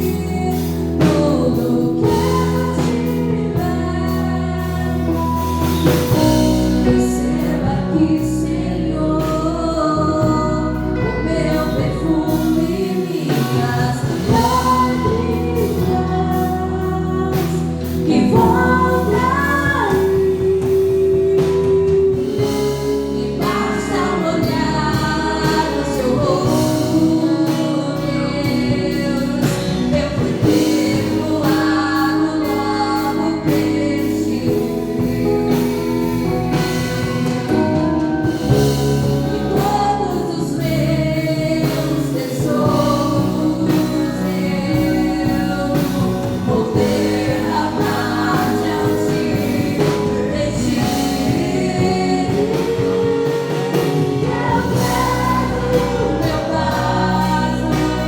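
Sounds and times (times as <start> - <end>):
group of voices singing: 0.0 - 58.0
instrumental backing: 0.0 - 58.0.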